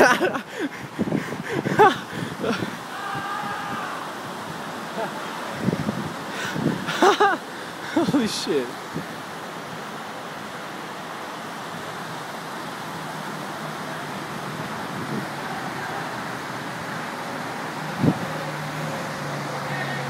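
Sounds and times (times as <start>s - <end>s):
freeway traffic roar: 0.0s - 20.0s.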